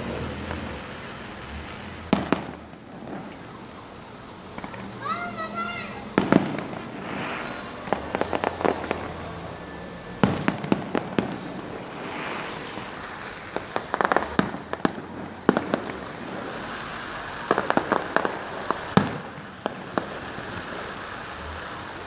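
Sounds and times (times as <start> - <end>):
crackling hiss: 0.0 - 22.0
fireworks bangs and crackles: 0.0 - 22.0.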